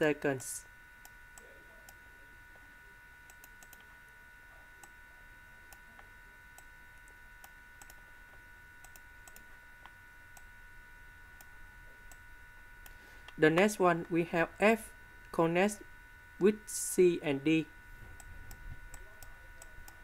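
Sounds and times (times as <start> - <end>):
faint electrical whine: 0.0 - 20.0.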